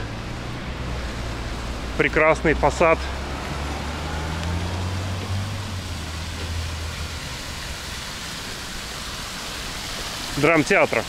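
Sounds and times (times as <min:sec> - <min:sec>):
low vehicle engine hum: 0:00.0 - 0:09.9
city traffic: 0:00.0 - 0:11.0.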